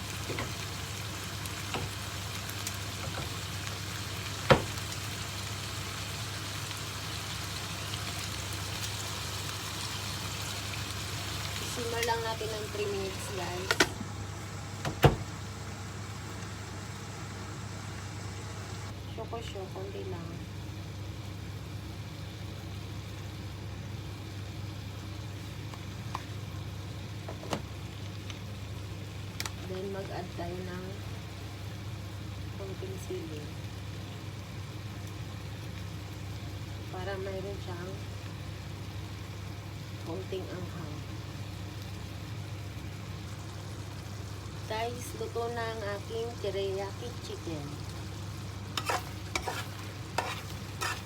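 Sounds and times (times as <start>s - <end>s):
chicken sizzling in a frying pan: 0.0s - 51.0s.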